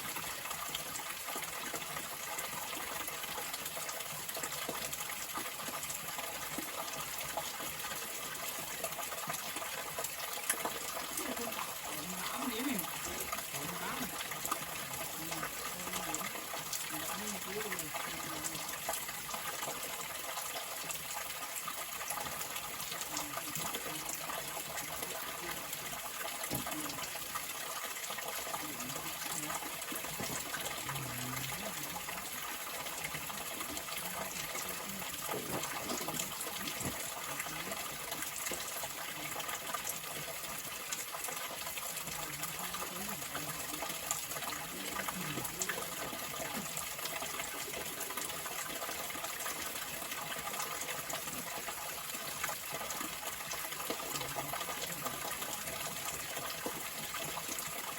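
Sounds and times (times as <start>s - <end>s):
stream water flowing: 0.0s - 57.9s.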